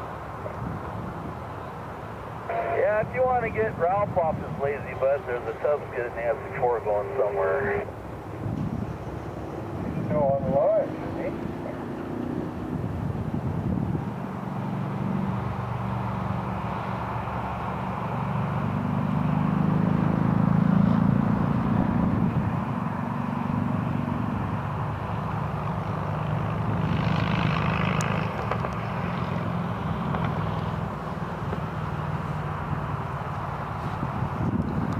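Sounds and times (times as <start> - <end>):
engine humming: 0.0 - 34.9.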